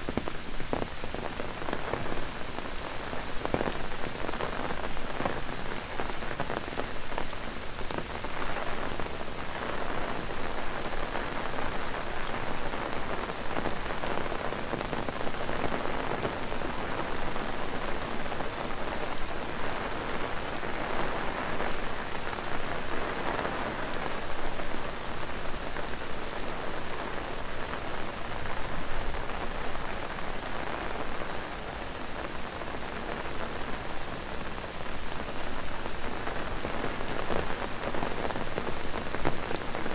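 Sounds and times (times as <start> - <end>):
heavy rain on umbrella: 0.0 - 39.9
cicada chorus drone: 0.3 - 39.9.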